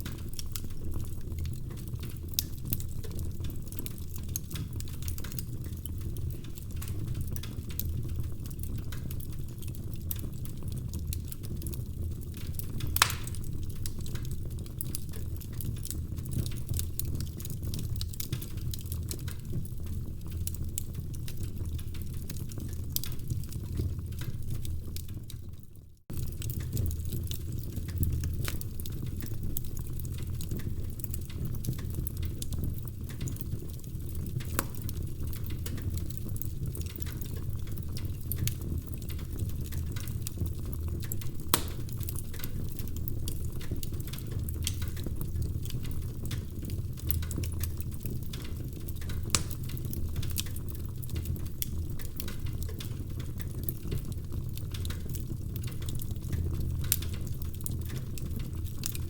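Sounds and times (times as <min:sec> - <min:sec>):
fire flames rumbling: 0:00.0 - 0:59.0
logs crackling and popping: 0:00.0 - 0:59.0.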